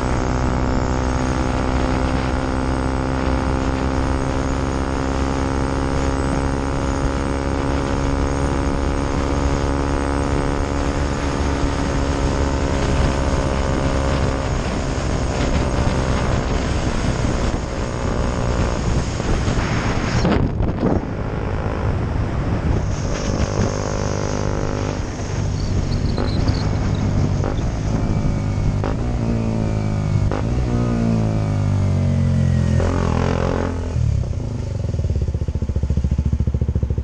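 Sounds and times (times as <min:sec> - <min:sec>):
wind rushing over microphone: 0:00.0 - 0:36.6
motorcycle engine running: 0:00.0 - 0:37.0
road noise: 0:00.0 - 0:37.0.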